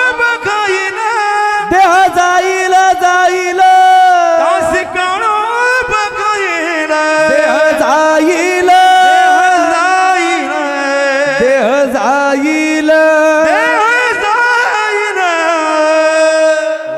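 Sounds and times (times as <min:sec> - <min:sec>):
man singing devotional melody: 0:00.0 - 0:16.9.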